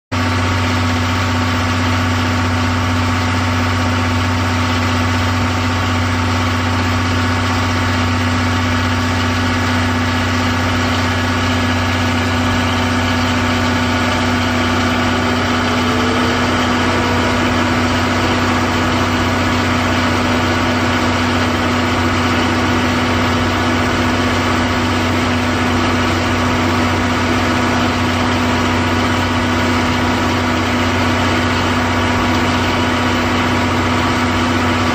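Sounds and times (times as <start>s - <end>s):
diesel generator humming: 0.1s - 34.9s.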